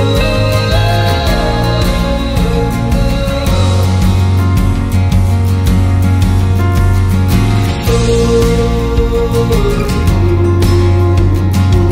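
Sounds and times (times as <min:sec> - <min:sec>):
music with steady beat: 0:00.0 - 0:11.9.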